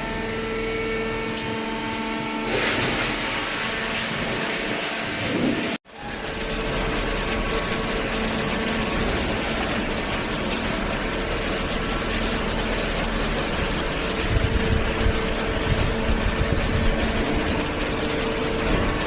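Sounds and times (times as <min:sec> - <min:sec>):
hydraulic pump humming: 0:00.0 - 0:19.0.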